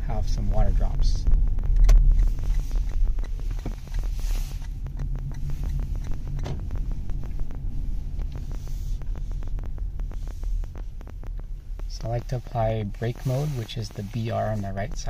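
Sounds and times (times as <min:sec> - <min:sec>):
car interior rumble: 0:00.0 - 0:15.0
sharp clicks and ticks: 0:00.0 - 0:15.0.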